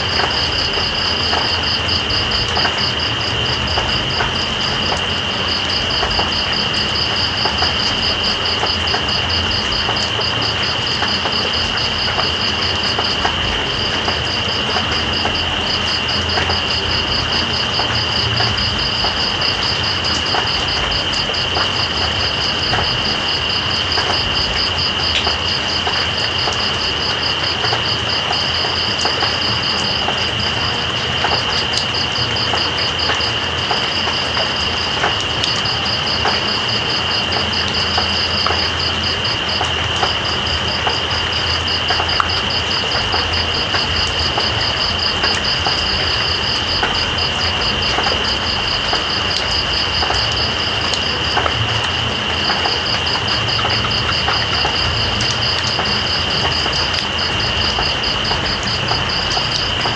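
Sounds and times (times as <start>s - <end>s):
steady rain: 0.0s - 59.9s
water drips: 0.0s - 59.9s.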